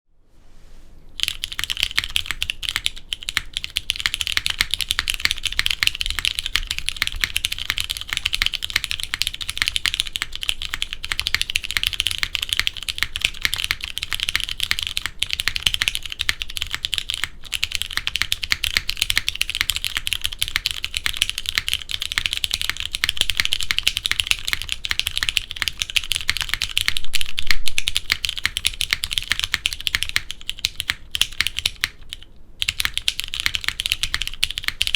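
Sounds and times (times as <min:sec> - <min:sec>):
mechanical keyboard typing: 0:01.2 - 0:34.9.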